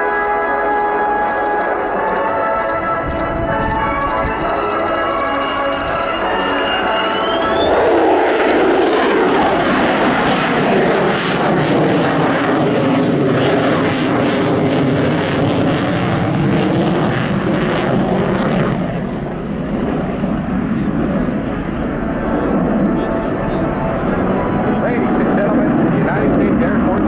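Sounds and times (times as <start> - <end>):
jet passing with crackle: 0.0 - 27.0.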